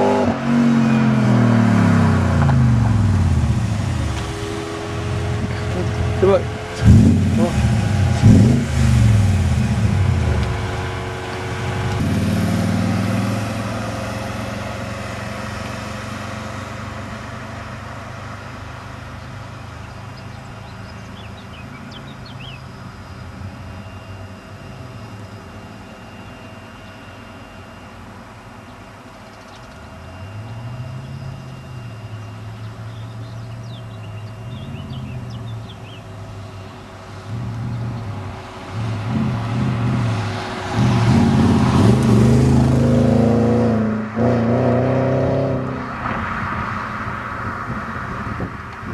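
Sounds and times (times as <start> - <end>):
car engine revving and idling: 0.0 - 27.2, 29.6 - 48.9.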